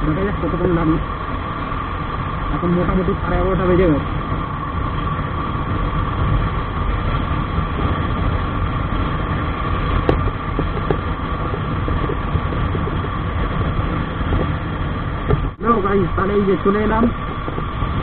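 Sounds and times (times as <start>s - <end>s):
motorcycle engine rumble: 0.0s - 18.0s
wind and road noise: 0.0s - 18.0s.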